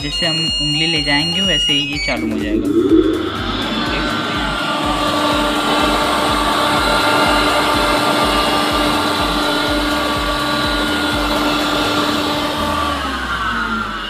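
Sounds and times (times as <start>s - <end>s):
flour mill motor whirring: 2.2s - 14.0s.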